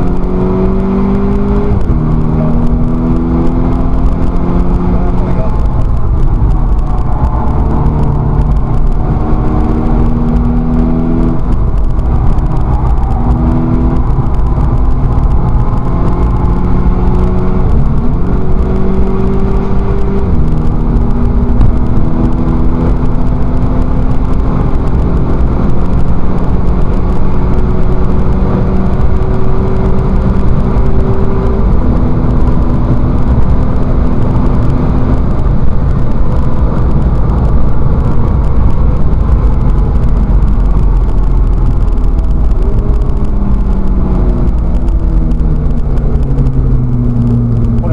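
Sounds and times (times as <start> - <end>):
car engine revving through gears: 0.0 - 47.9.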